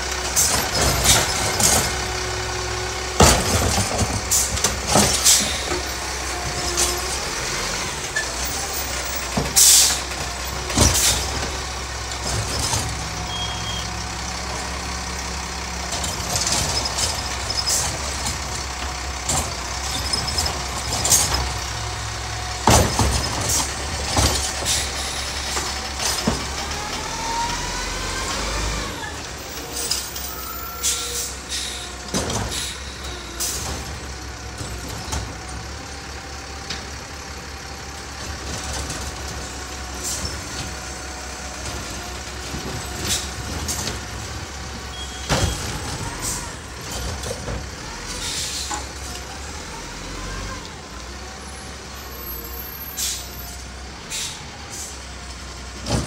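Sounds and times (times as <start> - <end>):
diesel garbage truck running: 0.0 - 56.0.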